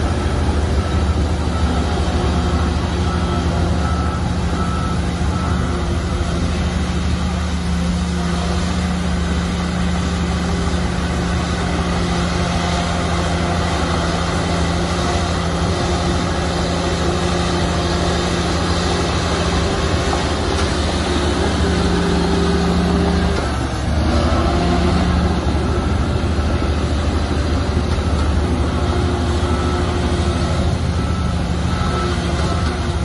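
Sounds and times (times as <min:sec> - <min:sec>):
heavy diesel machinery drone: 0:00.0 - 0:33.0.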